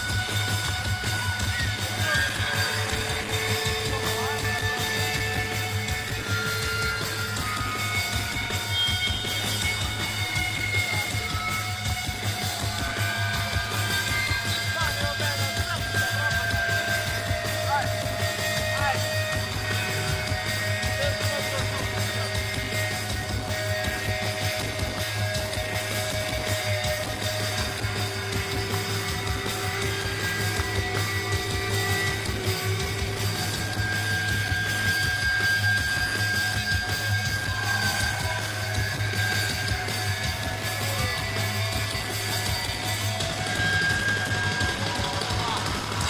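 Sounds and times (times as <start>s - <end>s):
electric guitar bent notes: 0.0s - 46.0s
heavy low bass: 0.0s - 46.0s
live rock band playing: 0.0s - 46.0s.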